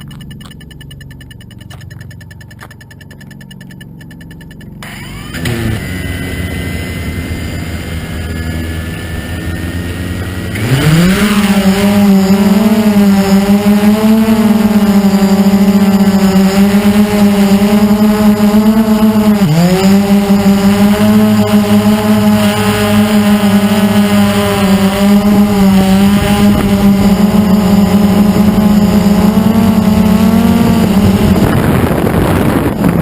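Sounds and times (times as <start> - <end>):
quadcopter motors buzzing: 0.0 - 33.0.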